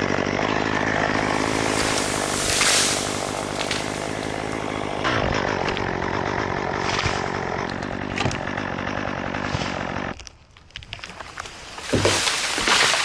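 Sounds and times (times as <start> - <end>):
chainsaw running: 0.0 - 10.2, 11.1 - 13.0.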